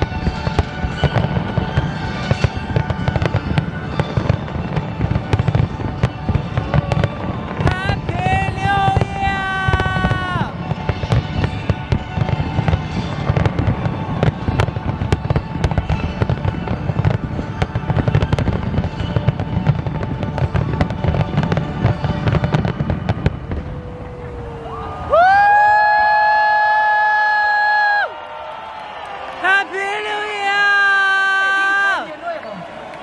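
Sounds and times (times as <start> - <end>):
fireworks cracking and banging: 0.0 - 33.0.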